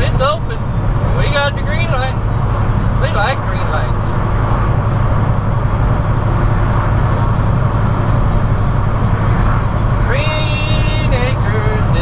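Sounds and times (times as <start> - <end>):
diesel engine droning: 0.0 - 12.0
road and tyre noise: 0.0 - 12.0.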